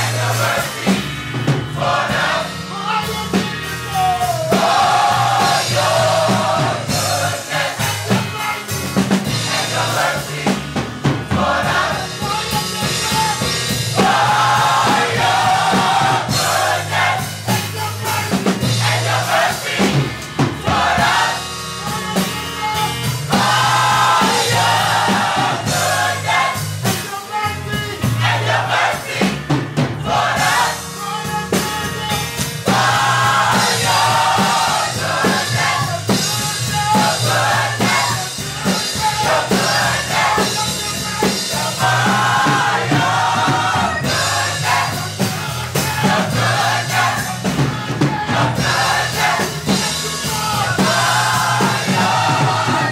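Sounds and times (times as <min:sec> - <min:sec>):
drum kit beat: 0:00.0 - 0:52.9
gospel choir singing with band: 0:00.0 - 0:52.9.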